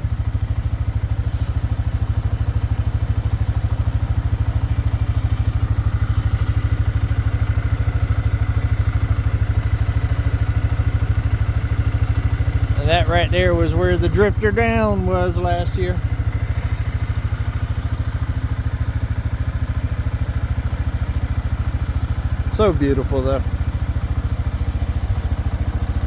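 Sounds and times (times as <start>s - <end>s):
four-wheeler engine running: 0.0s - 26.0s.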